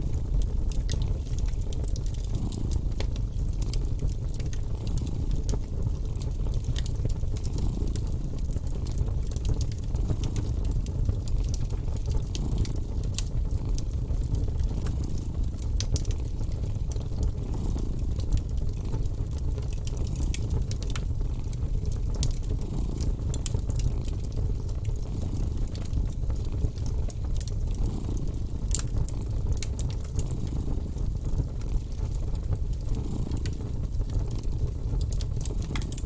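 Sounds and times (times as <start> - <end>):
fire crackling: 0.0 - 36.0
cat purring: 0.3 - 10.7, 12.0 - 31.8, 32.9 - 33.7.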